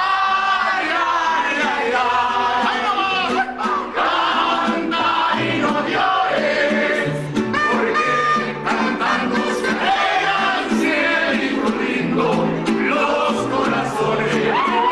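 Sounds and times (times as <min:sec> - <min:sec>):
mariachi band playing: 0:00.0 - 0:14.9
voices singing together: 0:00.0 - 0:14.9.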